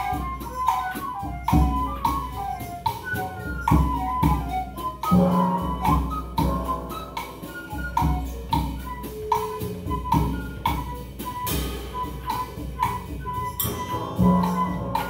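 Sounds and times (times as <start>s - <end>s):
pan pipes playing: 0.0s - 15.0s.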